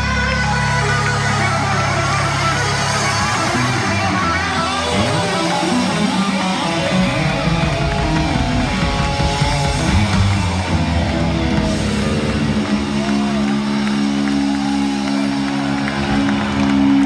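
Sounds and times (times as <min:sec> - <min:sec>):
electric guitar: 0:00.0 - 0:17.0
hard rock band playing live: 0:00.0 - 0:17.0.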